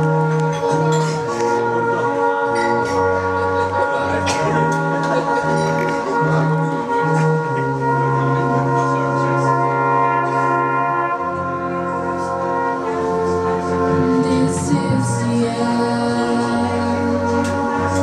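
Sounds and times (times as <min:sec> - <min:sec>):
brass band playing sustained chords: 0:00.0 - 0:18.0.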